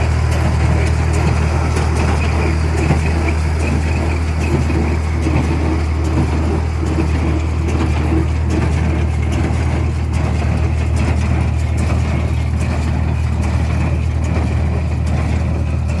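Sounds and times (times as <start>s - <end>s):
baler and tractor engine droning: 0.0s - 16.0s.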